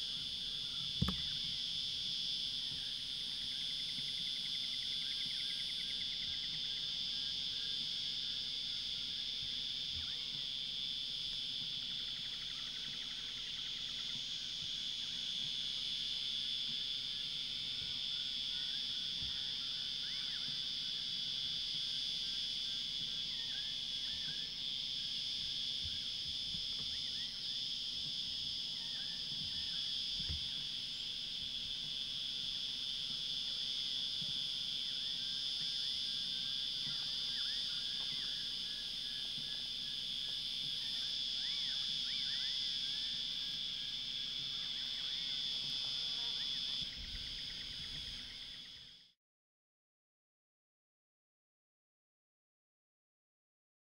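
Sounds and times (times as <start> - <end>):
insects chorus: 0.0 - 49.2.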